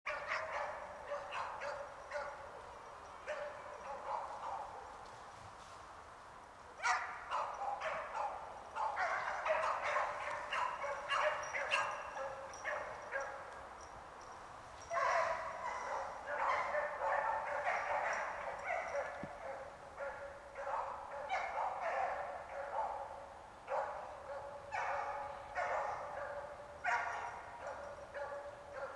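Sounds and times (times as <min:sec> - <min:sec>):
dogs barking: 0:00.1 - 0:04.9, 0:06.8 - 0:13.5, 0:14.8 - 0:28.9.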